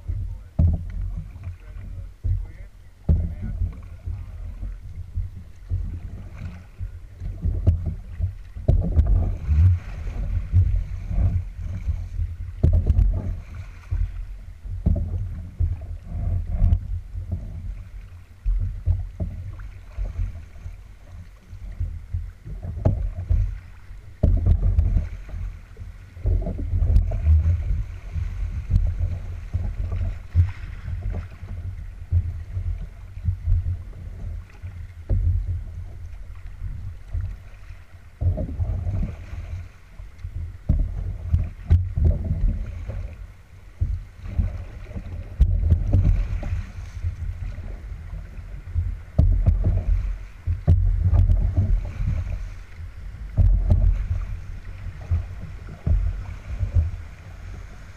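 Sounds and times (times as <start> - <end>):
river water rushing along hull: 0.0 - 57.9
wind buffeting microphone: 0.0 - 57.9.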